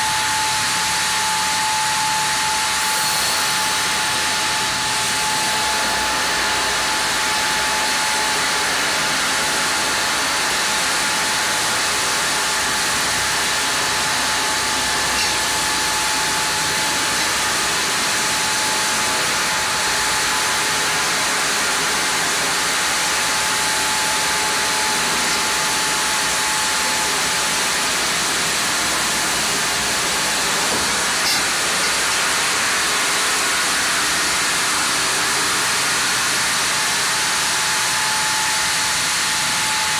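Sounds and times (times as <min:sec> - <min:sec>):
band saw cutting a log: 0:00.0 - 0:39.9
thin steady whine: 0:00.0 - 0:39.9.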